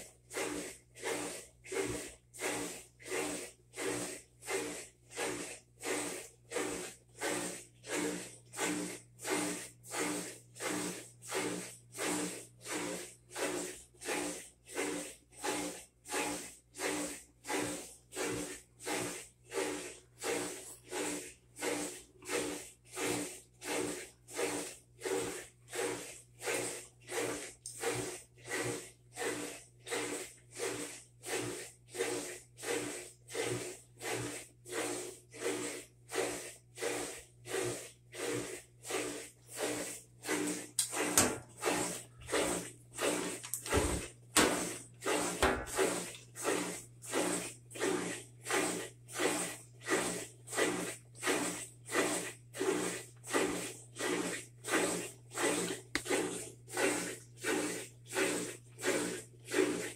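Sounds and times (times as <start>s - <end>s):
washer rhythmic hissing whoosh: 0.0s - 59.9s.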